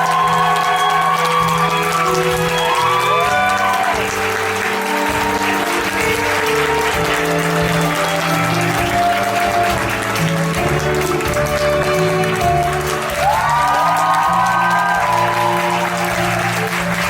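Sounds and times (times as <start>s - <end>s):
audience applauding: 0.0s - 17.0s
instrumental music: 0.0s - 17.0s.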